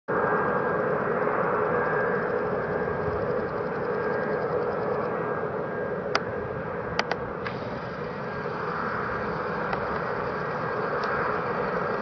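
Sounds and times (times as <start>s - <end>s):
jet engines whining: 0.1s - 12.0s.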